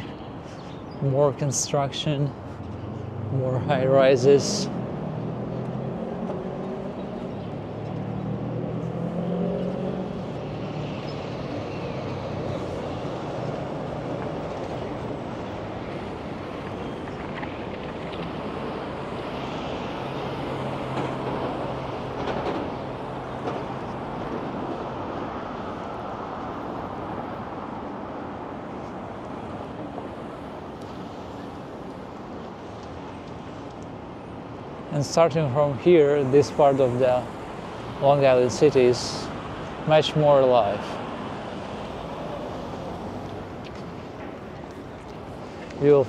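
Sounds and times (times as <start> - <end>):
passing cars: 0.0 - 46.0.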